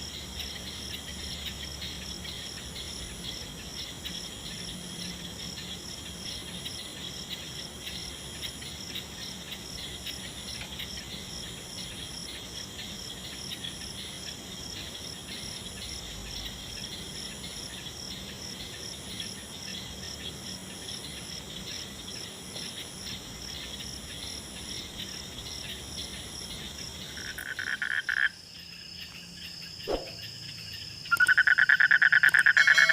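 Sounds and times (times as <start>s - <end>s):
crickets chirring: 0.0s - 32.9s.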